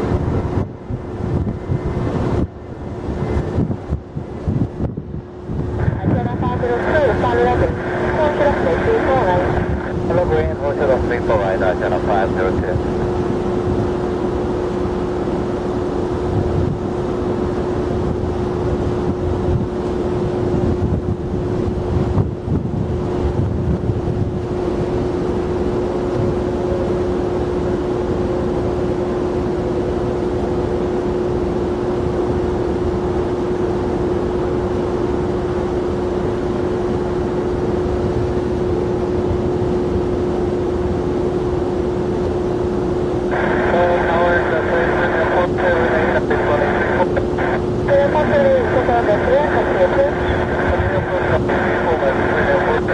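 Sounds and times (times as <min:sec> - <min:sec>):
jet engines humming: 0:00.0 - 0:22.0, 0:23.9 - 0:52.9
wind rumble on microphone: 0:00.0 - 0:29.5, 0:31.4 - 0:52.9.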